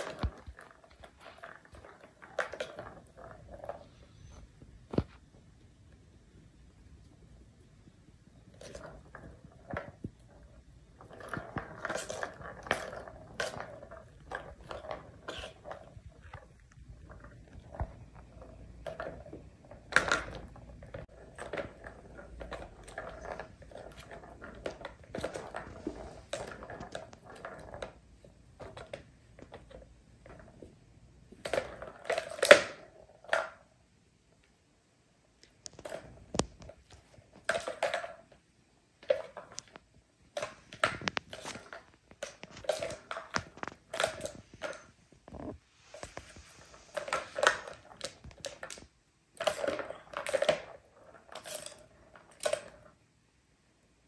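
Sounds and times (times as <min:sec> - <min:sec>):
plastic balls rolling and rattling: 0:00.0 - 0:34.6, 0:35.3 - 0:54.0.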